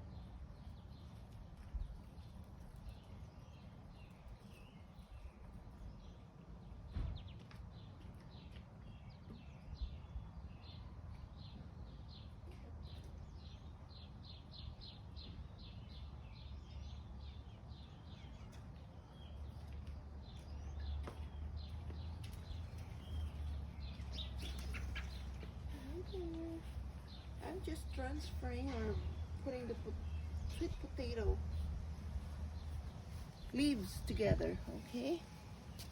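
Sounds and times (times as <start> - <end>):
songbirds chirping: 0.0 - 35.9.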